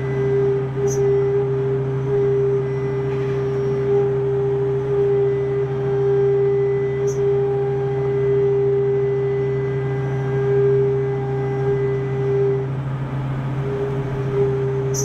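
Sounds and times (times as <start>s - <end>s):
machine whine: 0.0s - 15.0s
machining center low hum: 0.0s - 15.0s.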